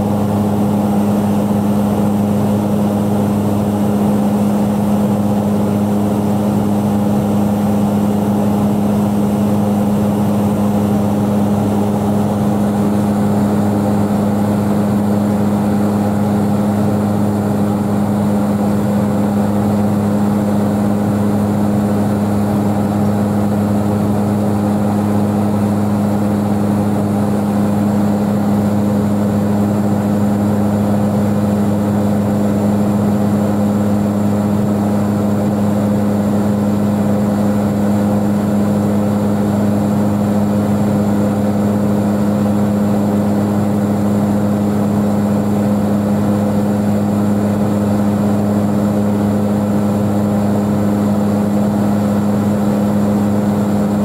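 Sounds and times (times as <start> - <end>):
propeller engines droning: 0.0 - 54.0.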